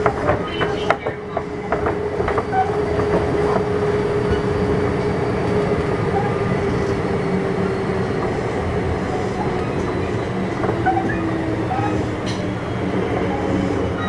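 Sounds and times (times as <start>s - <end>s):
train wheels rumbling on rails: 0.0s - 14.0s
electric train motor whine: 1.0s - 14.0s.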